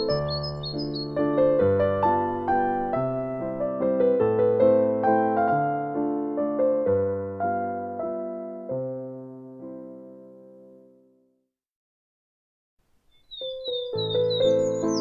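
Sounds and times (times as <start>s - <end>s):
slow gentle piano music: 0.0s - 11.4s, 13.2s - 15.0s.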